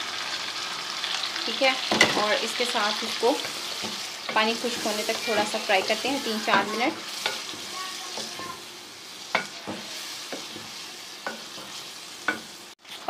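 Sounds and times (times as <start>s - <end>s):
food sizzling in pan: 0.0s - 13.0s.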